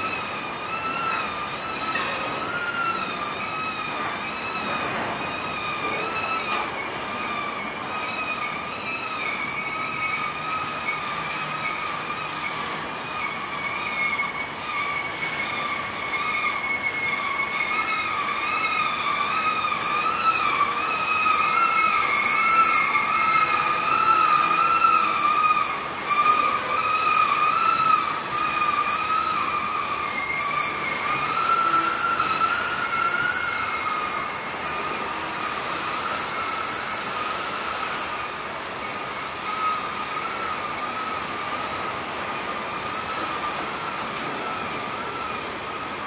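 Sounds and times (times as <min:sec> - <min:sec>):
wheels squealing on rails: 0:00.0 - 0:46.0.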